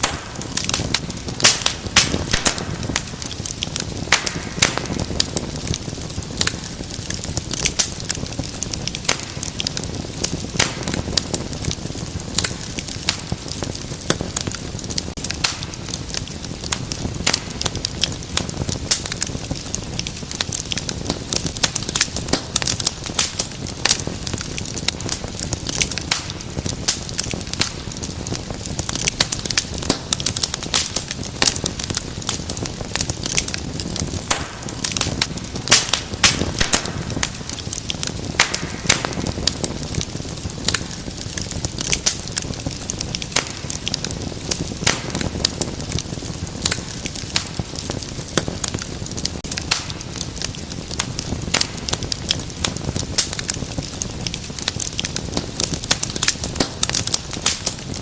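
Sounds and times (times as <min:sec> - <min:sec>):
crackles and pops of logs: 0:00.0 - 0:58.0
fire burning in a fireplace: 0:00.0 - 0:58.0.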